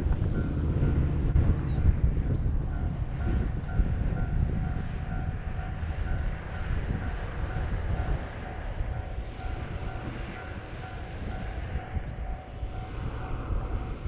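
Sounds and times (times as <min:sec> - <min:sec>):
distant railcar rumble: 0:00.0 - 0:14.0
wind buffeting microphone: 0:00.0 - 0:14.0.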